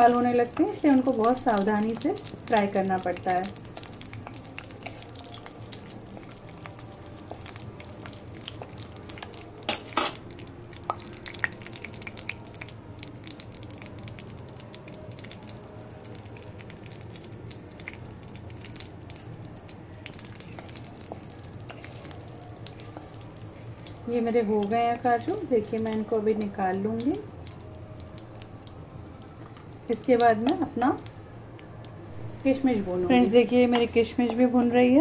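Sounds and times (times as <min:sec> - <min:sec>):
nuts frying crackles and pops: 0:00.0 - 0:35.0.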